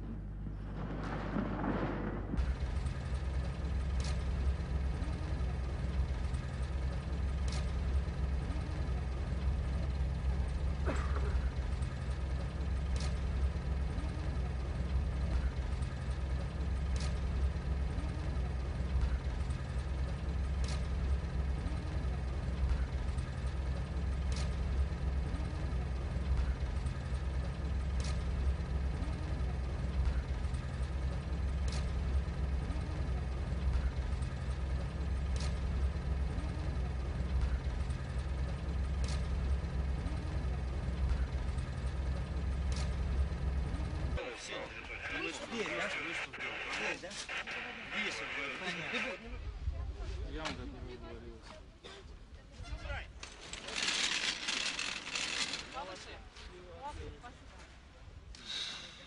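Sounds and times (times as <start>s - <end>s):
low mechanical engine rumble: 0.0s - 59.0s.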